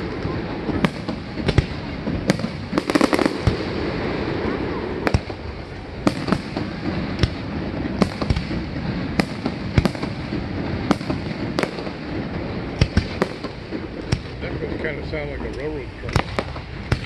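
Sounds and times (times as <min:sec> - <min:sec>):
firework shells bursting: 0:00.0 - 0:15.1
steady noisy background: 0:00.0 - 0:17.0.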